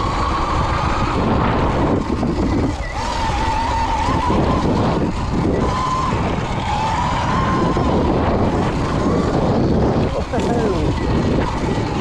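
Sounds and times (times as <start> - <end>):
electric motor whine: 0.0 - 12.0
wind and tyre noise: 0.0 - 12.0.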